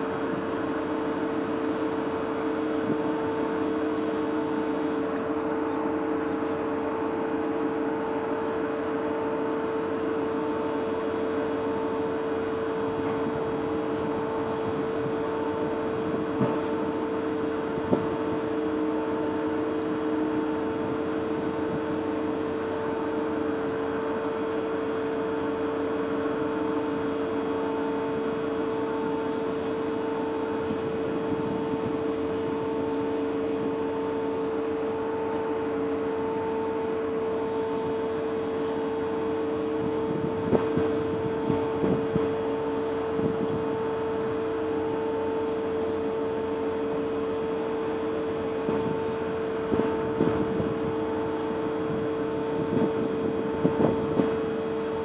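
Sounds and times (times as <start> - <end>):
ship engines humming: 0.0 - 55.0.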